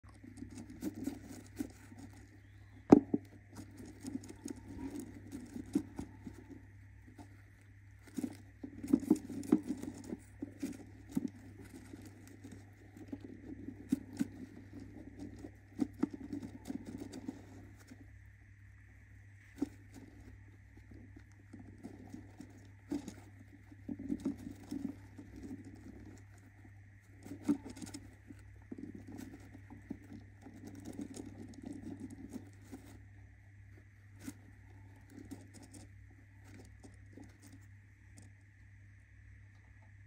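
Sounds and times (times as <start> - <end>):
bird scratching and rustling in nest: 0.0 - 38.8.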